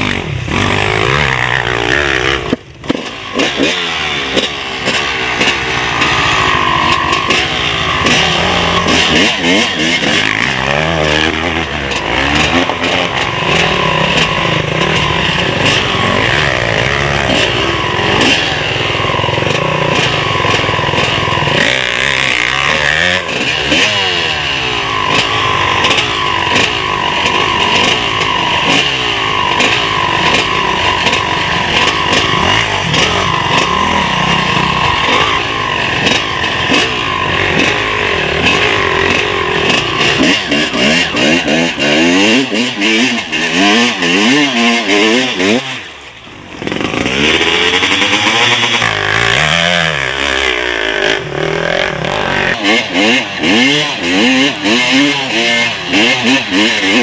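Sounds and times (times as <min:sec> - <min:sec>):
motocross engines revving: 0:00.0 - 0:57.0.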